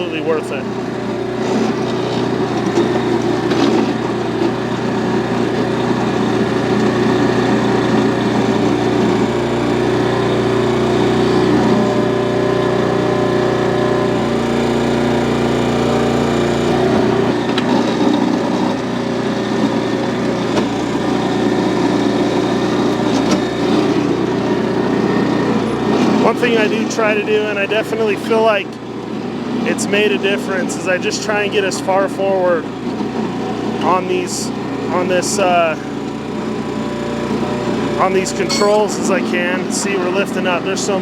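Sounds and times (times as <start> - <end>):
small gasoline engine running: 0.0 - 41.0.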